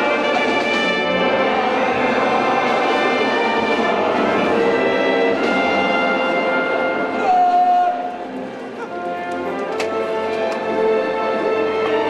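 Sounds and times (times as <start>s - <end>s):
brass-led orchestral music: 0.0s - 12.0s.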